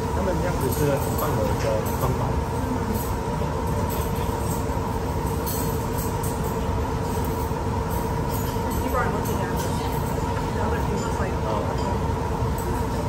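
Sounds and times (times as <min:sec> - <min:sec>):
constant hum: 0:00.0 - 0:13.0
low rumbling background noise: 0:00.0 - 0:13.0.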